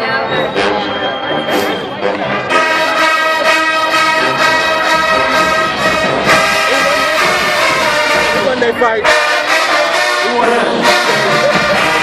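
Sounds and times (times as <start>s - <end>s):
marching band brass playing chords: 0.0s - 12.0s.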